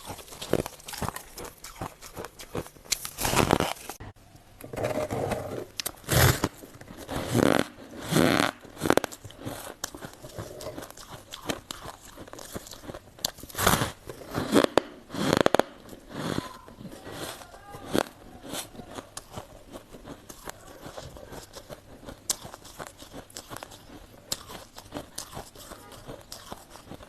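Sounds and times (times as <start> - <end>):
ice crunching between teeth: 0.0 - 4.0, 5.7 - 27.0
quiet chewing: 0.0 - 4.0, 5.7 - 14.9, 15.8 - 27.0.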